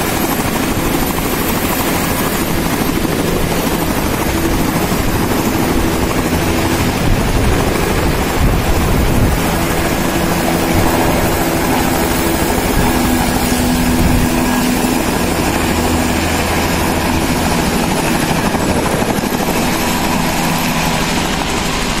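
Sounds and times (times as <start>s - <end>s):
helicopter running: 0.0s - 22.0s.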